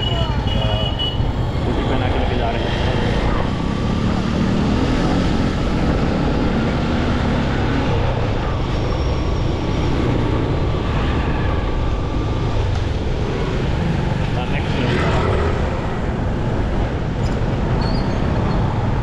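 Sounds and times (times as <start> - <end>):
motorcycle engine and road noise: 0.0 - 19.0
surrounding traffic: 0.0 - 19.0.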